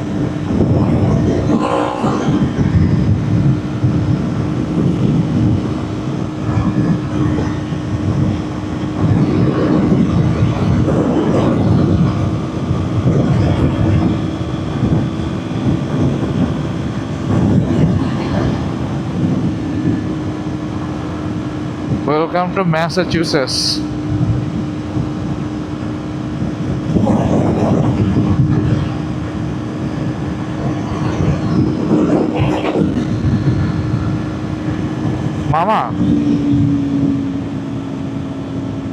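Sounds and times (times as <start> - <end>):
motorcycle engine high-rpm drone: 0.0 - 38.9
wind noise on microphone: 0.0 - 38.9.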